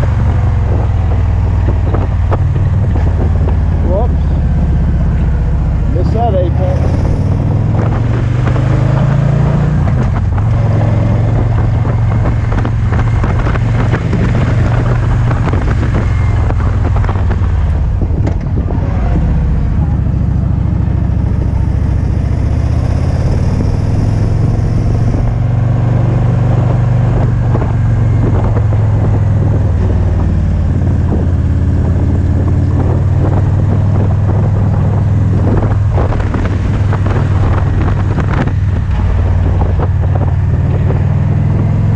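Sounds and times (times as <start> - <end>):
motorcycle engine rumble: 0.0 - 41.9
wind rushing over microphone: 0.0 - 41.9.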